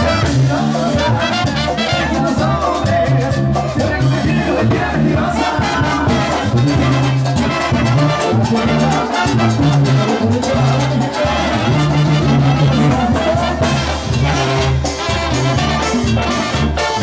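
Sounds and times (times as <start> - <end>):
bass line: 0.0 - 17.0
brass instruments: 0.0 - 17.0
drums keeping time: 0.0 - 17.0.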